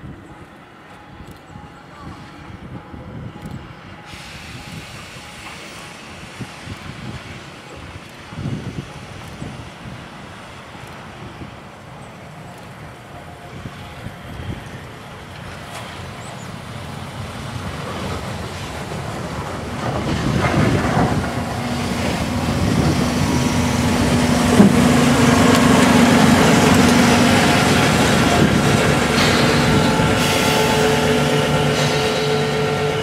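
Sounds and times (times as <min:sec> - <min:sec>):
train rolling past: 0:00.0 - 0:33.0.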